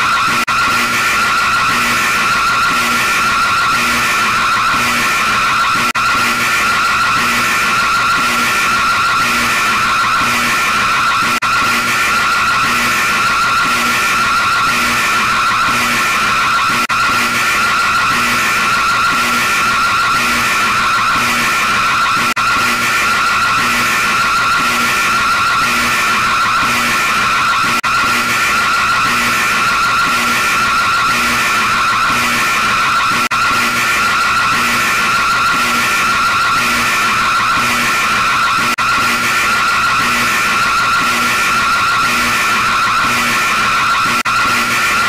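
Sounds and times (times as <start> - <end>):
screeching electronic alarm tone: 0.0 - 45.0.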